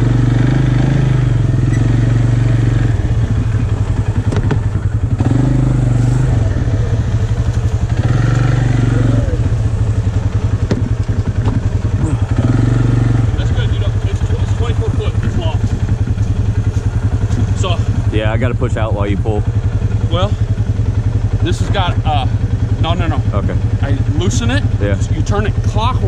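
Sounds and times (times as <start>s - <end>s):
atv engine chugging: 0.0s - 26.0s.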